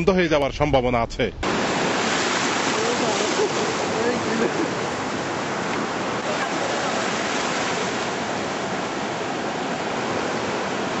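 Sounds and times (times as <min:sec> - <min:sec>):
small waves washing: 0:01.4 - 0:11.0.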